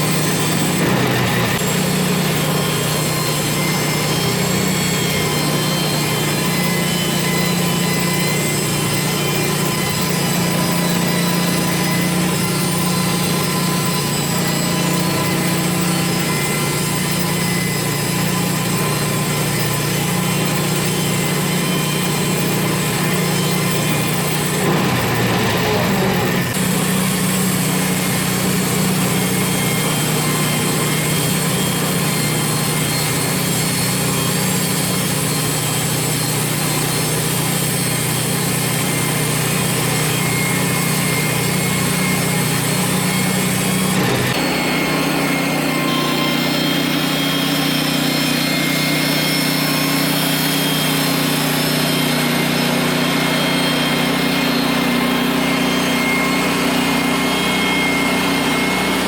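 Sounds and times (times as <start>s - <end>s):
sawmill engine humming: 0.0s - 59.0s.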